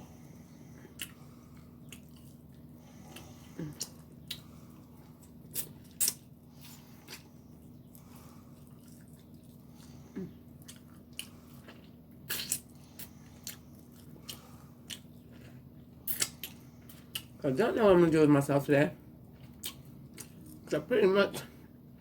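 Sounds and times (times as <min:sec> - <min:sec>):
faint steady hum: 0:00.0 - 0:22.0
biting and chewing food: 0:00.1 - 0:17.4, 0:19.1 - 0:20.7.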